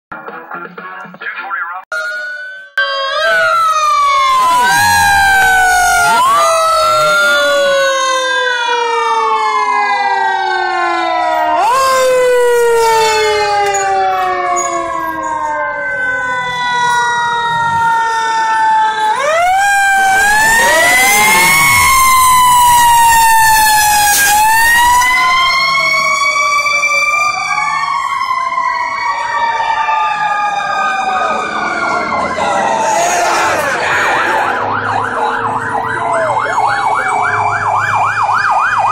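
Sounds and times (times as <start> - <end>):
fire engine sirens wailing: 1.9 - 38.9.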